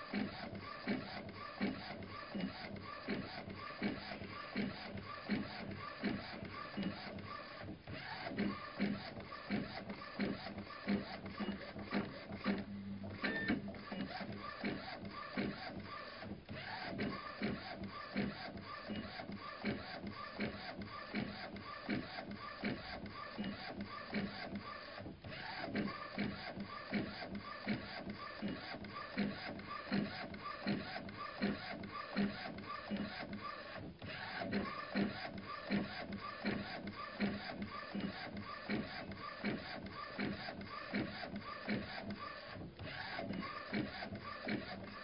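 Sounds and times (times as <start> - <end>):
machine mechanical clatter: 0.1 - 45.0.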